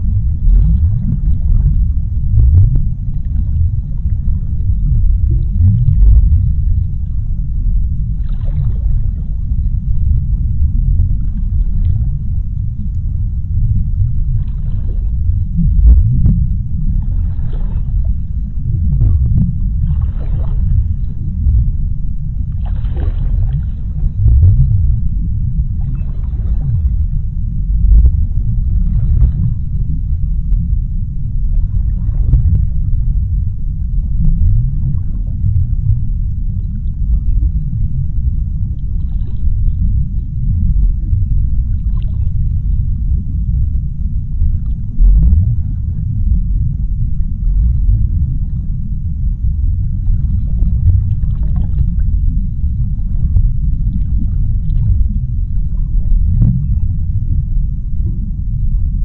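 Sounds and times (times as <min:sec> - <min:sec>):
bubbling: 0:00.0 - 0:13.0, 0:13.6 - 0:30.9, 0:31.5 - 0:48.9, 0:49.7 - 0:59.0
deep underwater rumble: 0:00.0 - 0:59.0.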